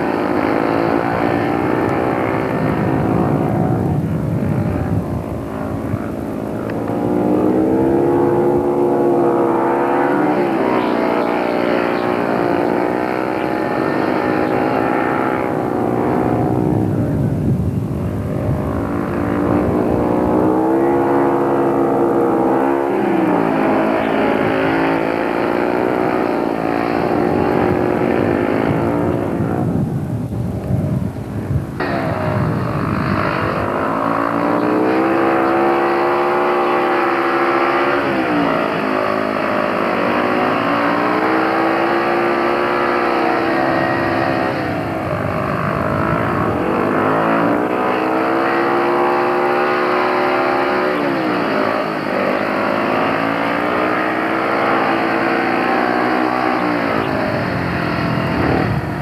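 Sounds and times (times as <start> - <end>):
motorcycle engines racing: 0.0 - 59.0.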